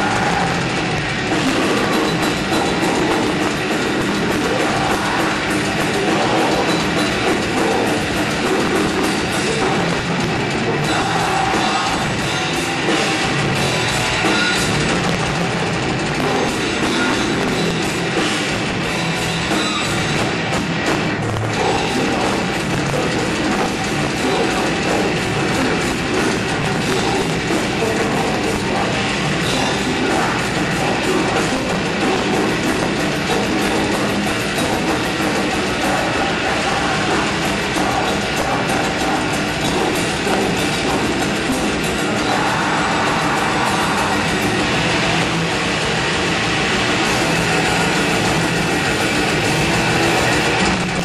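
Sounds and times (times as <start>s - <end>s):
distorted electric guitars: 0.0s - 51.0s
drum kit: 0.0s - 51.0s
heavy metal band playing live: 0.0s - 51.0s.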